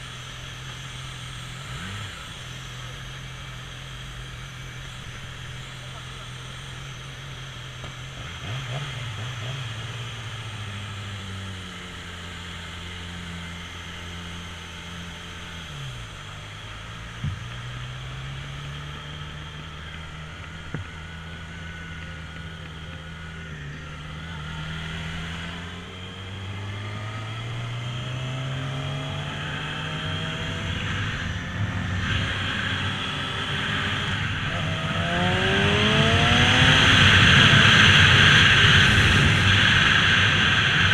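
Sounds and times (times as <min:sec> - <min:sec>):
motorbike engine running: 0:00.0 - 0:40.9.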